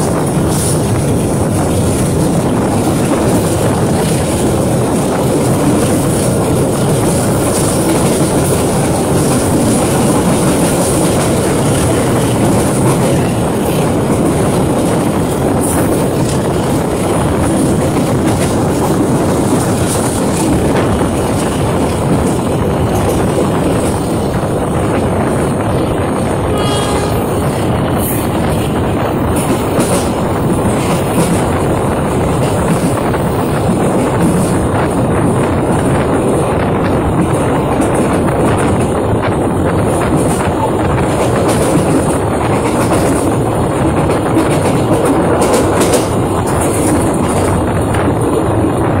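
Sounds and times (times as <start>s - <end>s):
rushing wind: 0.0s - 49.0s
train wheels rumbling on rails: 0.0s - 49.0s.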